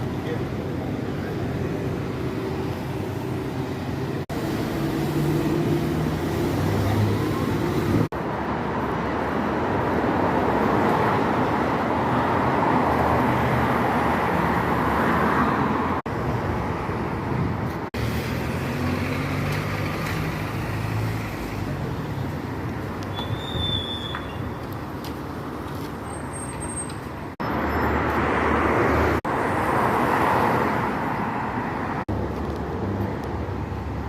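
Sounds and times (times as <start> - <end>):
road traffic hum: 0.0 - 34.0.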